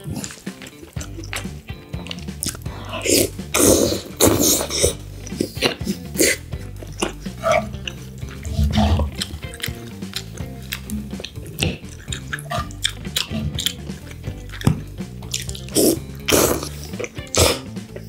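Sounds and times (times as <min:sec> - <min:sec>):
person chewing spaghetti wetly: 0:00.0 - 0:18.0.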